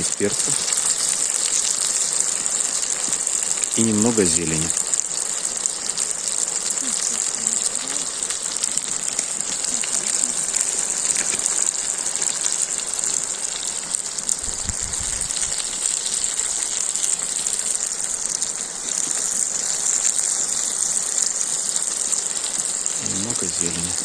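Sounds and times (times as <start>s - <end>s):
food sizzling over campfire: 0.0s - 24.0s.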